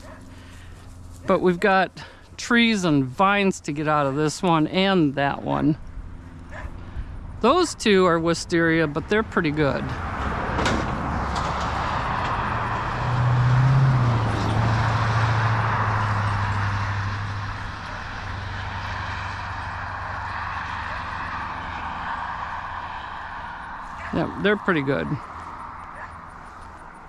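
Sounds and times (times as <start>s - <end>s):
passing vehicle engine drone: 0.0s - 27.0s.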